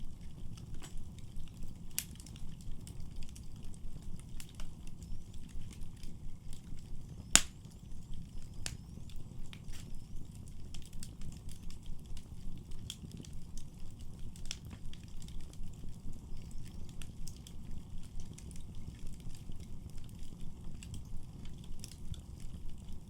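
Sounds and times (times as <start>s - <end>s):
low rumble of burning: 0.0s - 23.0s
wood fire crackling and popping: 0.0s - 23.0s.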